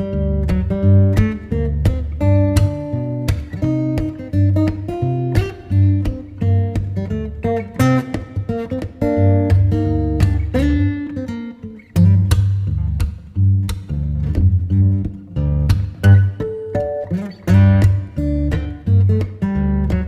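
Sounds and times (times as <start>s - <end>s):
plucked guitar quick notes: 0.0s - 20.0s.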